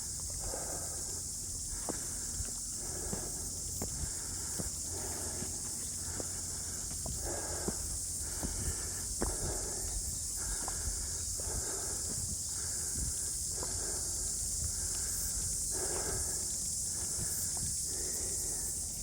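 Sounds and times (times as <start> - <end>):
high-pitched insect chorus: 0.0 - 19.0
footsteps crunching on a track: 1.4 - 19.0.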